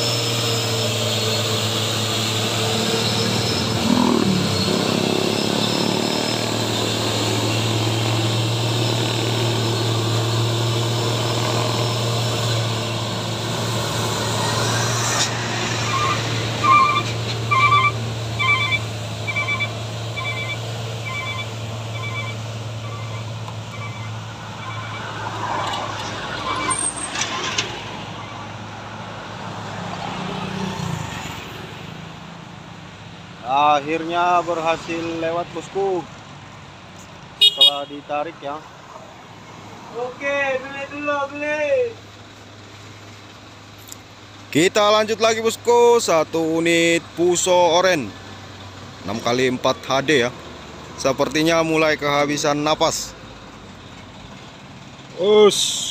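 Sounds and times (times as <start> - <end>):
diesel truck engines: 0.0 - 55.9.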